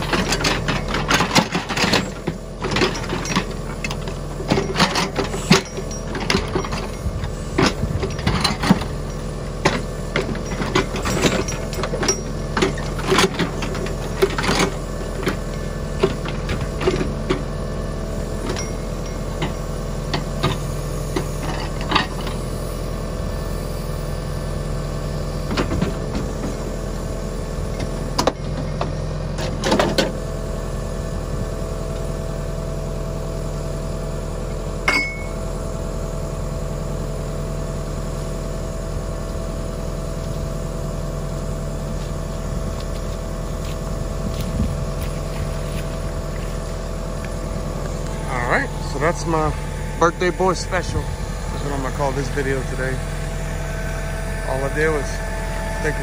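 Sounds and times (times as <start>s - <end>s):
backhoe knocks and clanks: 0.0s - 23.4s, 24.2s - 53.4s
tractor diesel engine running: 0.0s - 56.0s.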